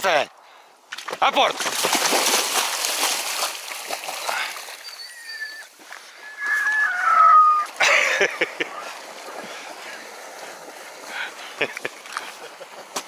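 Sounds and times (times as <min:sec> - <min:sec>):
dogs splashing in water: 0:00.9 - 0:12.8.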